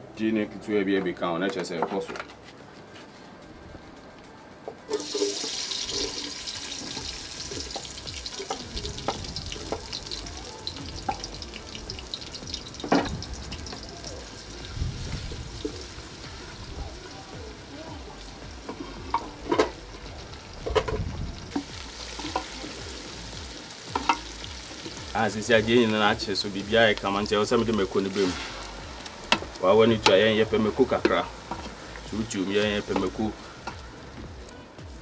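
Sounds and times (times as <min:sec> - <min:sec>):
onion and garlic sizzling in oil: 0:04.9 - 0:34.5.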